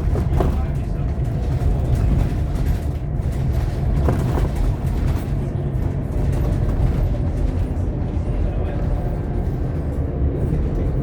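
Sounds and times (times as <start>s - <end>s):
bus engine drone: 0.0s - 11.0s
road rumble: 0.0s - 11.0s.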